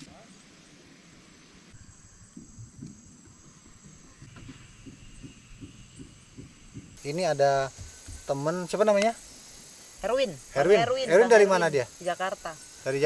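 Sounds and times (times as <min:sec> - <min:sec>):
high-pitched insect drone: 0:01.7 - 0:13.0.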